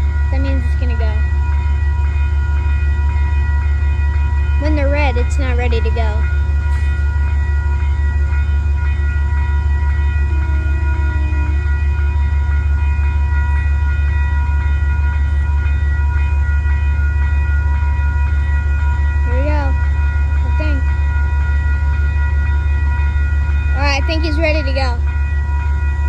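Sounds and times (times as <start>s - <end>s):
diesel locomotive idling: 0.0s - 26.0s
faint whining tones: 0.0s - 26.0s.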